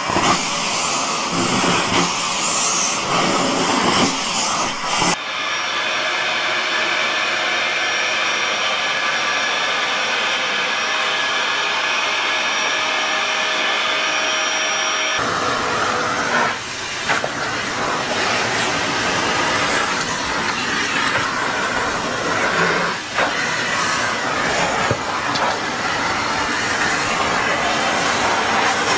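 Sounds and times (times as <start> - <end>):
vacuum cleaner hissy rush: 0.0 - 28.9
vacuum cleaner motor whine: 0.0 - 28.9.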